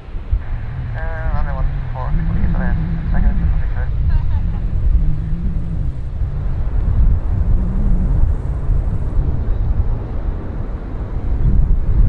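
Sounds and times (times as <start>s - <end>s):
distant jet airliner rumble: 0.0s - 12.0s.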